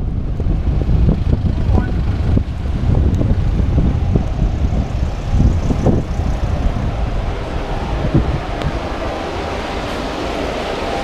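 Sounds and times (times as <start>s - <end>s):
road noise hiss: 0.0s - 11.0s
wind buffeting microphone: 0.0s - 11.0s.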